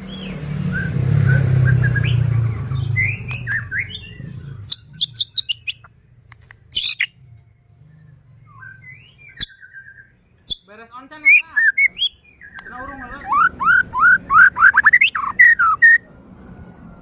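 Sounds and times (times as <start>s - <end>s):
bird singing whistled notes: 0.1s - 16.0s.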